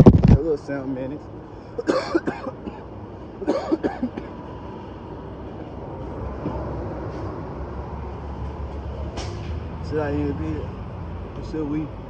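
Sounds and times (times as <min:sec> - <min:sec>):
heavy vehicle engine rumble: 0:00.0 - 0:12.0.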